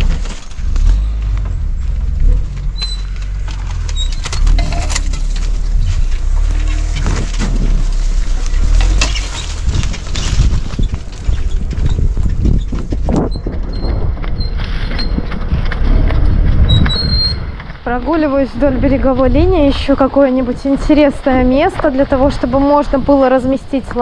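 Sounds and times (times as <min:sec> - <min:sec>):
car rumbling on dirt track: 0:00.0 - 0:24.0
trailer knocks and rattles: 0:00.0 - 0:24.0.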